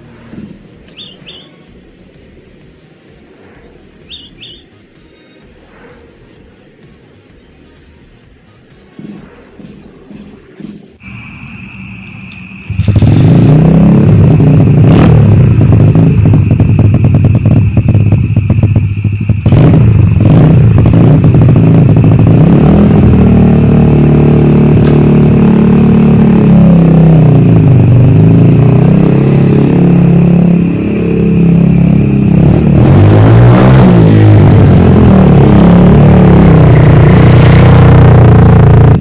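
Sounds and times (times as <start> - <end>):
dirtbike engine revving: 0.0 - 6.9, 11.7 - 39.0.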